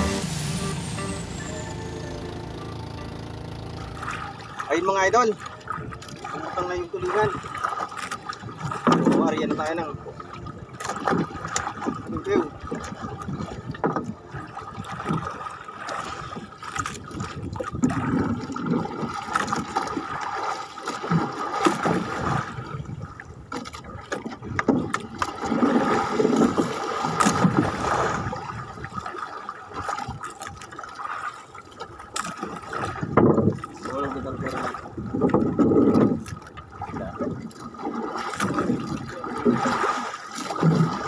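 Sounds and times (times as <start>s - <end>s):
water splashing against boat hull: 2.8s - 41.0s.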